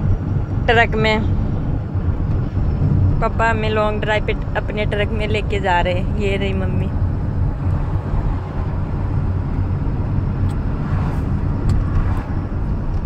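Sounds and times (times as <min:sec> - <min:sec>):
truck engine and tyres rumble: 0:00.0 - 0:13.0.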